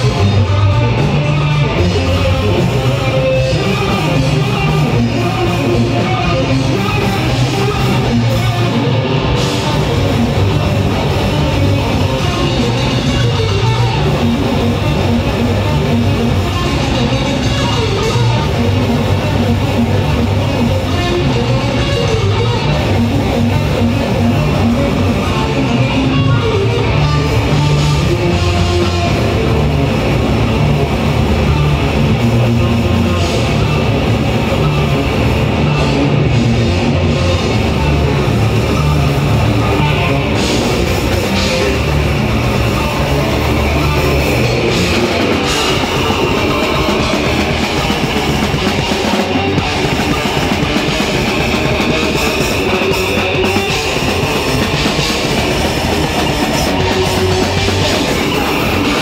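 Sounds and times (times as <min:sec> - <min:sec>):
drum kit: 0:00.0 - 0:59.0
electric guitar riffing: 0:00.0 - 0:59.0.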